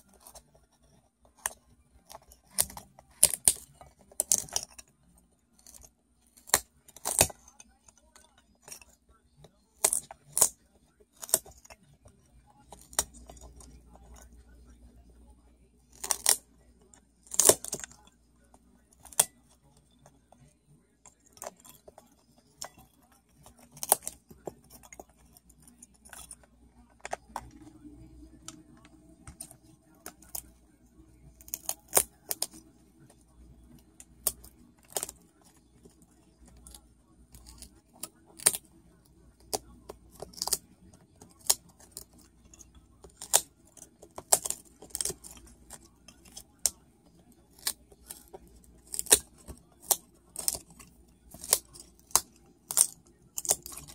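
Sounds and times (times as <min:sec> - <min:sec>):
cockatoo beak clicking and tapping: 0:00.0 - 0:14.9, 0:15.9 - 0:53.9.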